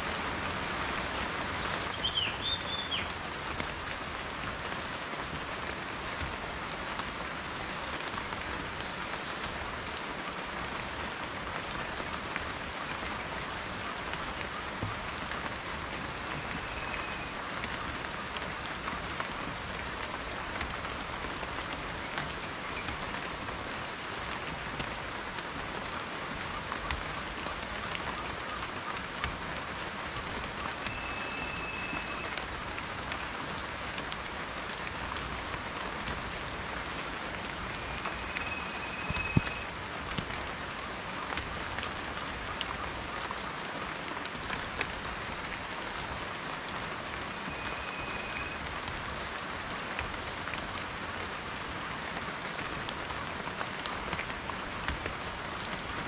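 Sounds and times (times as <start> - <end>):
rain hissing: 0.0 - 56.0
raindrops ticking on a surface: 0.0 - 56.0.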